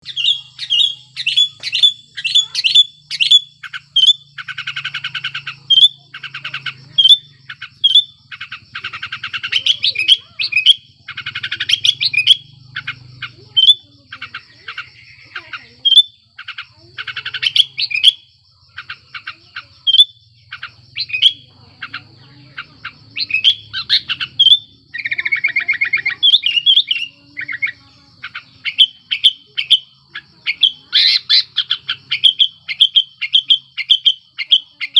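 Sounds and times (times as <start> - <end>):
bird chattering rattles: 0.0 - 34.9.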